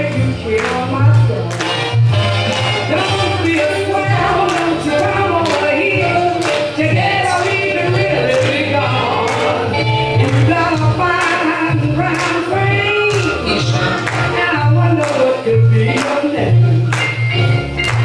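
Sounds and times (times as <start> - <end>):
swing music with singing: 0.0 - 18.0.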